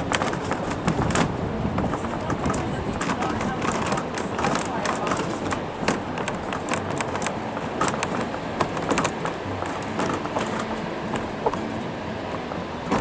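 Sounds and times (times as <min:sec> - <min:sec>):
train running rumble: 0:00.0 - 0:13.0
train wheels clicking and clacking: 0:00.0 - 0:13.0.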